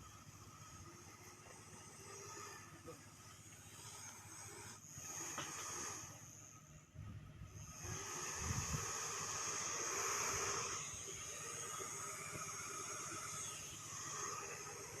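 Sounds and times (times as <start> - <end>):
fan blades hissing: 0.0 - 15.0
mini fan motor whine: 0.0 - 15.0.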